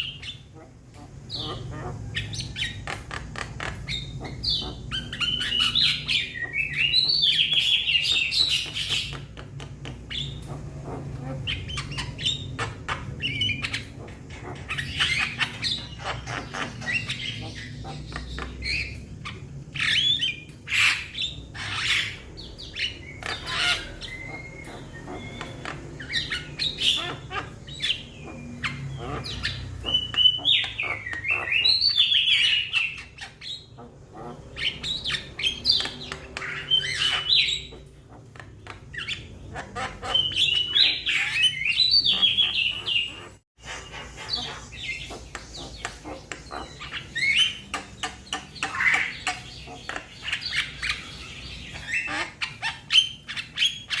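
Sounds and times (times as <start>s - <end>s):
bird squawking and chirping: 0.0s - 54.0s.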